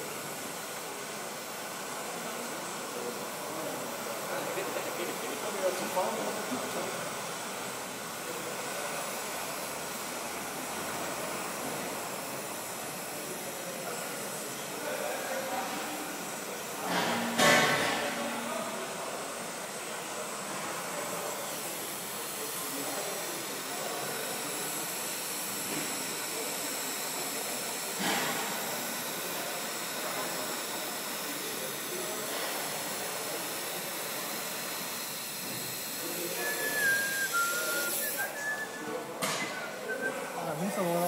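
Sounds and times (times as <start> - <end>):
welding arc hissing: 0.0 - 41.0.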